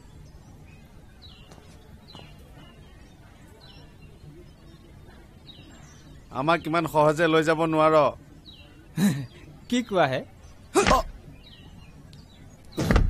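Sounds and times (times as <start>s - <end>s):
bird chirping: 0.0s - 13.0s
faint outdoor background noise: 0.0s - 13.0s.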